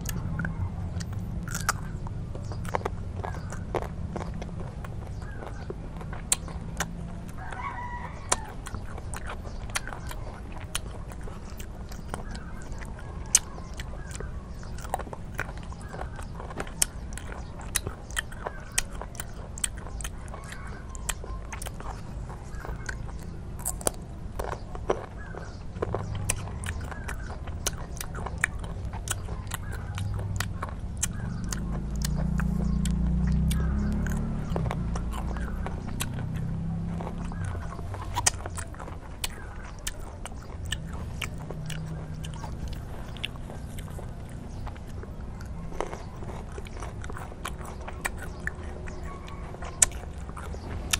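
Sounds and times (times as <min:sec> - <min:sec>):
chewing crunchy fruit: 0:00.0 - 0:50.9.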